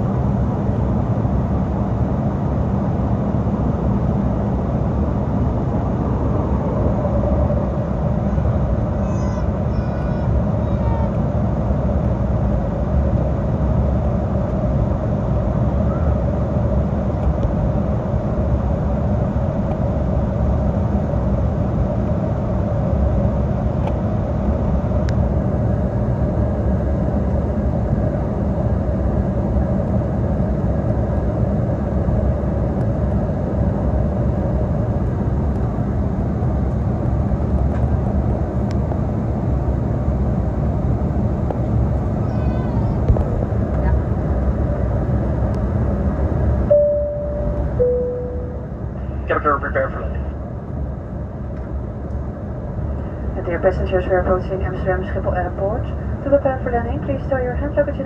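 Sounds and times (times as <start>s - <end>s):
air rushing along fuselage: 0.0s - 58.0s
jet engines droning: 0.0s - 58.0s.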